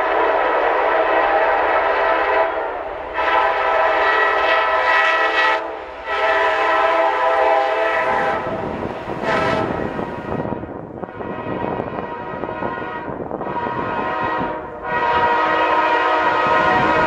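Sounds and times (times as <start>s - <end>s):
locomotive air horn blasts: 0.0s - 17.0s.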